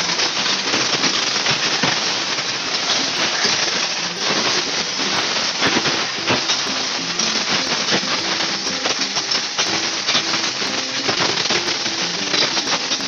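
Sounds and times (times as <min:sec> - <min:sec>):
pressure washer water jet spraying: 0:00.0 - 0:13.0.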